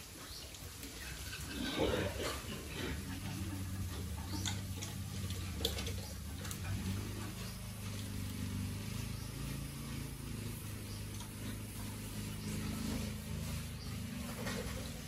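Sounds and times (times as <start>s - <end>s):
low motor hum: 1.0s - 15.0s.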